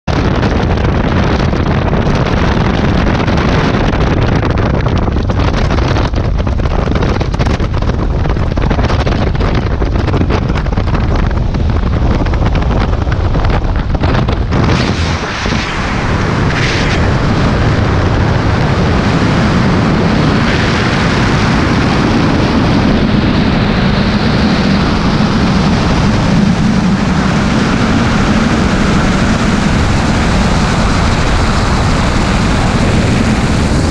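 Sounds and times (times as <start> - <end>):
light plane engine and propeller: 0.0 - 33.9
wind rush on microphone: 0.0 - 33.9.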